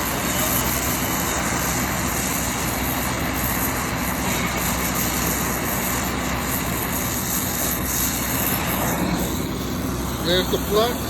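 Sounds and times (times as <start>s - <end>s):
low constant hum: 0.0s - 11.0s.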